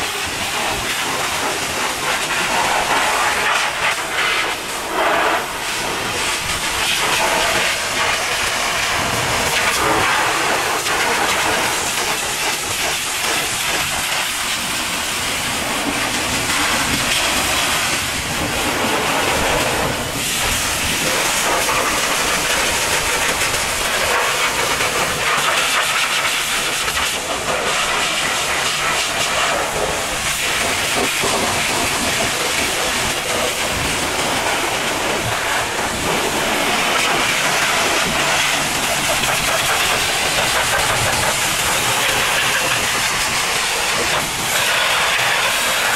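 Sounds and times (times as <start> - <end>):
pressure washer spray on metal: 0.0 - 45.9
water run-off splashing: 0.0 - 45.9.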